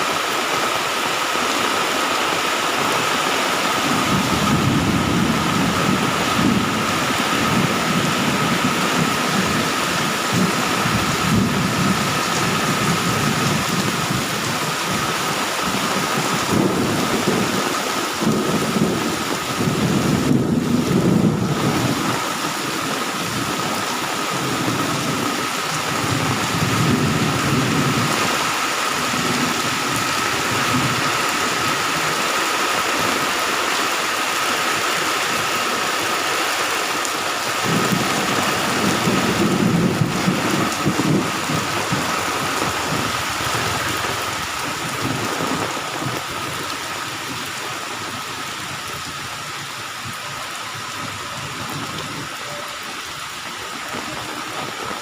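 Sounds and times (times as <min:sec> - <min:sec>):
heavy rain pouring: 0:00.0 - 0:55.0
thunder rumbling: 0:03.5 - 0:32.2, 0:37.5 - 0:55.0.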